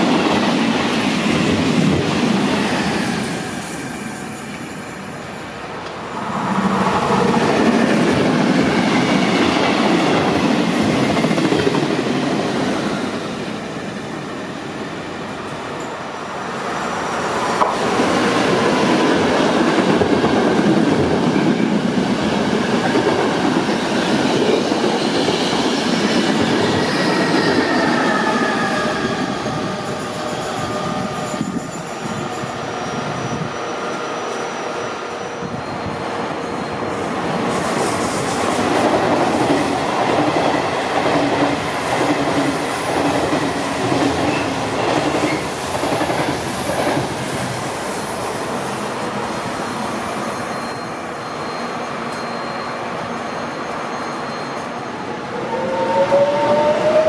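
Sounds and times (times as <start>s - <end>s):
train wheels rumbling on rails: 0.0s - 54.7s.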